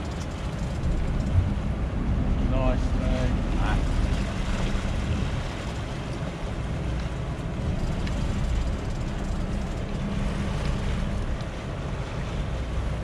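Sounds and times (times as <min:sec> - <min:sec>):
boat engine humming: 0:00.0 - 0:13.0
propeller wash churning water: 0:00.0 - 0:13.0.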